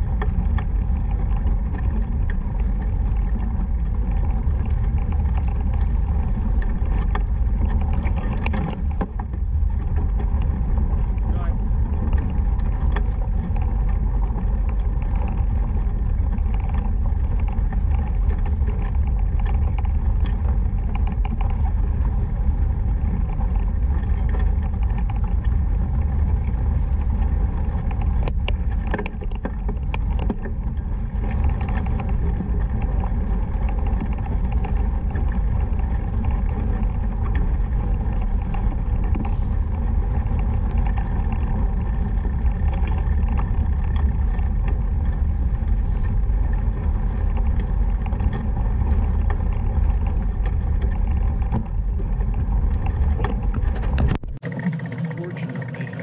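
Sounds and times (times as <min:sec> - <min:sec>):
bike tyres on dirt: 0:00.0 - 0:55.0
wind rumble: 0:00.0 - 0:56.0.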